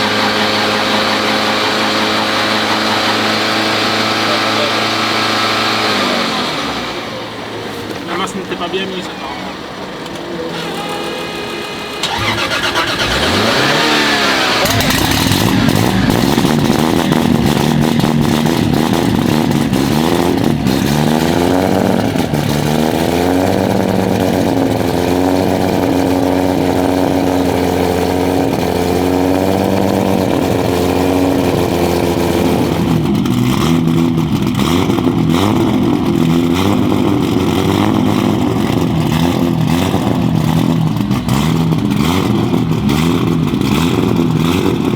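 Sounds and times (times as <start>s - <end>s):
car engine starting and idling: 0.0s - 44.9s.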